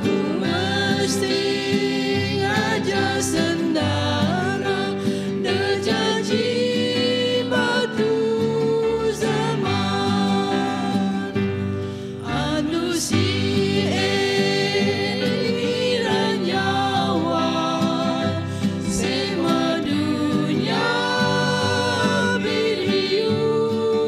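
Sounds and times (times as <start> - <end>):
acoustic guitar: 0.0 - 24.0
group singing in harmony: 0.0 - 24.0.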